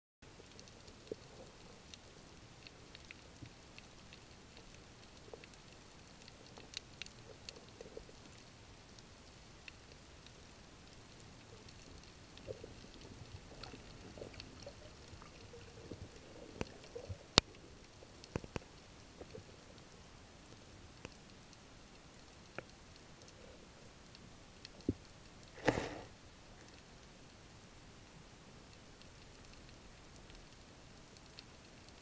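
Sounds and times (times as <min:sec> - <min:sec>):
faint underwater hiss: 0:00.3 - 0:32.0
underwater clicks and crackles: 0:00.3 - 0:32.0.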